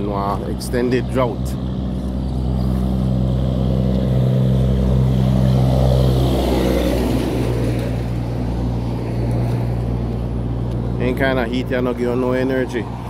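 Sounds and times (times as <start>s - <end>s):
steady low traffic hum: 0.0s - 13.0s
truck driving past: 0.0s - 13.0s.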